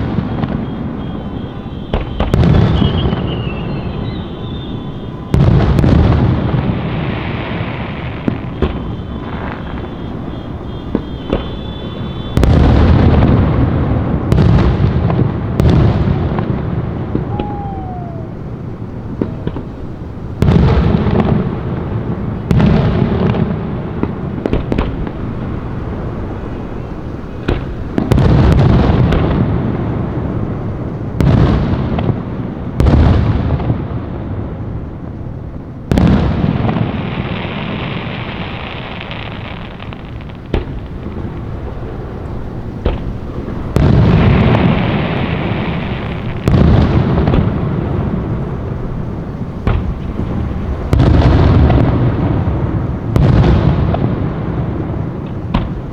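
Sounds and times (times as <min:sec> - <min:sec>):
firework shells booming: 0:00.0 - 0:35.0, 0:35.9 - 0:55.9
fireworks crackling: 0:00.0 - 0:55.9.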